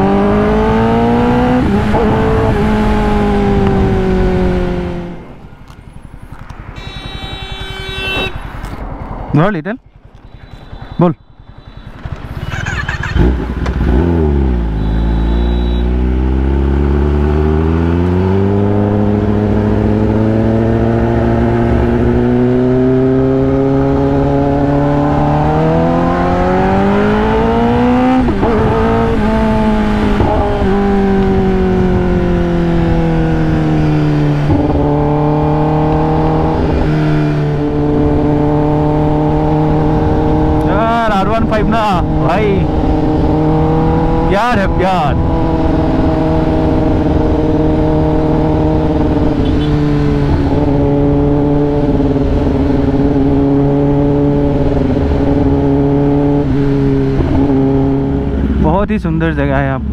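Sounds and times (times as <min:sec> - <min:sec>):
motorcycle accelerating hard: 0:00.0 - 0:05.4, 0:11.5 - 0:59.9.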